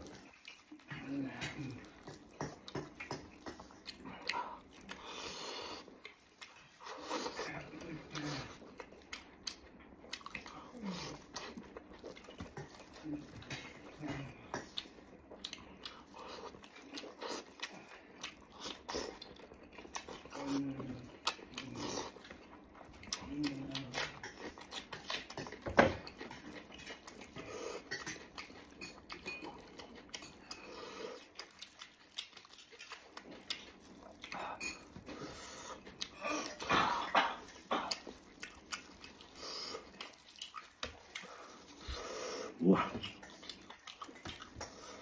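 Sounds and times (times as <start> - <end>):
wet chewing and lip-smacking: 0.0 - 45.0.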